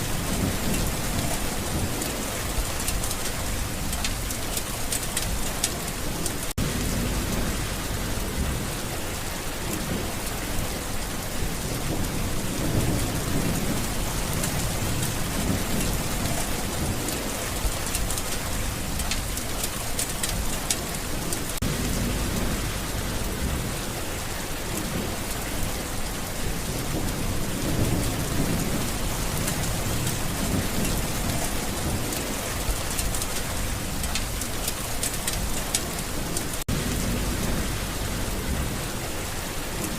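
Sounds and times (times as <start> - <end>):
low thunder rumbles: 0.0 - 39.9
rain falling: 0.0 - 39.9.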